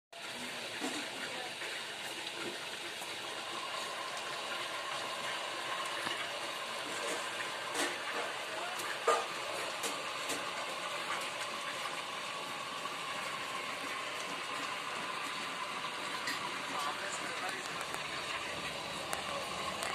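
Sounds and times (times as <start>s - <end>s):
water rushing through hose: 0.2s - 19.9s.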